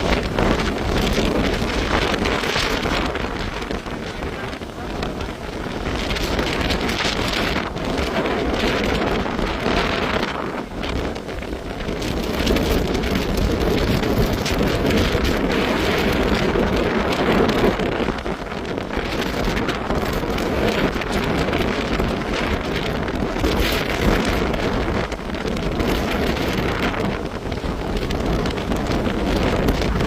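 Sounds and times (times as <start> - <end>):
heavy rain roar: 0.0 - 30.0
wind buffeting microphone: 0.0 - 30.0
wind gusts: 0.0 - 30.0.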